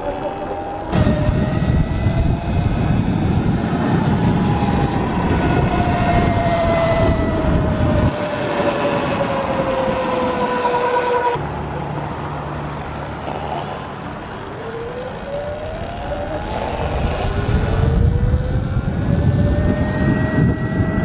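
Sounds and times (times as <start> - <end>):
electric motor whining: 0.0 - 11.4, 12.3 - 21.0
wind and tyre rumble: 0.0 - 21.0.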